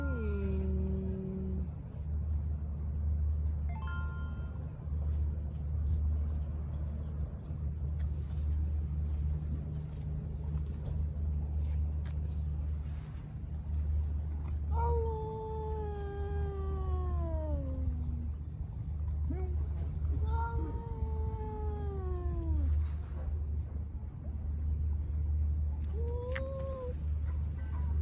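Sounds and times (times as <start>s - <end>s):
street background rumble: 0.0s - 28.0s.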